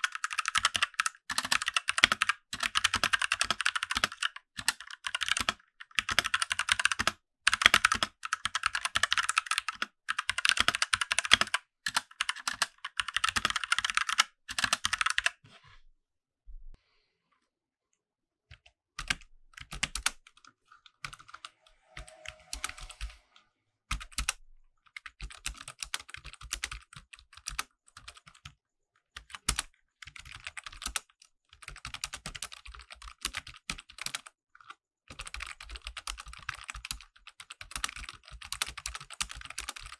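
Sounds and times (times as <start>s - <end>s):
mechanical keyboard typing: 0.0s - 15.4s, 18.5s - 23.2s, 23.9s - 28.6s, 29.2s - 39.9s.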